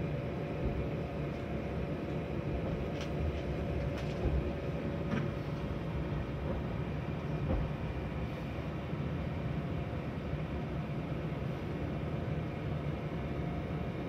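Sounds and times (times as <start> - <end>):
faint steady hum: 0.0 - 14.0
train running rumble: 0.0 - 14.0.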